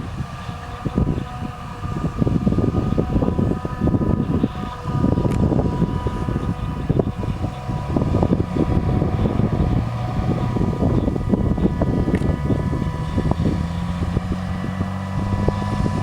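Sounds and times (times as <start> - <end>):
thin steady whine: 0.0 - 16.0
tractor diesel engine rumbling: 0.0 - 16.0.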